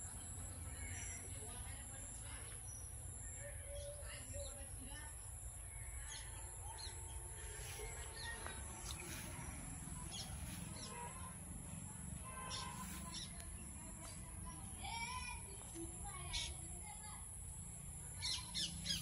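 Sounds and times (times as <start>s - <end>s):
birds chirping: 0.1s - 17.1s, 18.0s - 19.0s.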